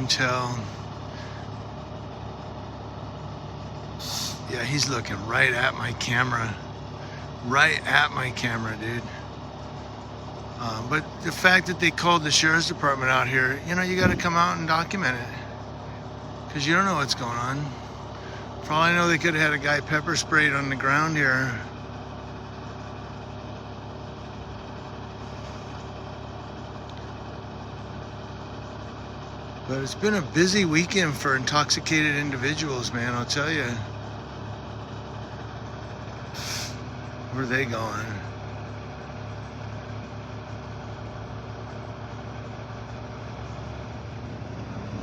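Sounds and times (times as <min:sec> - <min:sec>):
large vehicle engine idling: 0:00.0 - 0:45.0.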